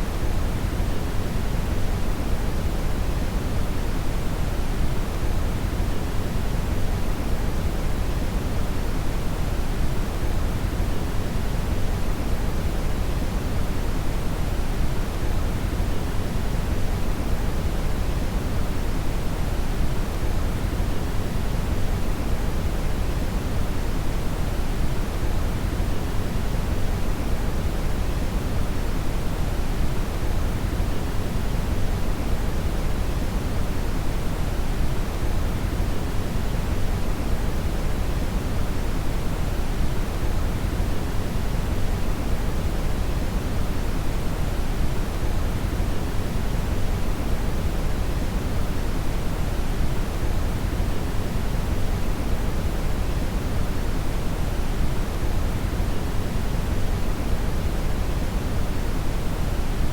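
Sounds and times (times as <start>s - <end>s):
brown noise hiss: 0.0s - 59.9s.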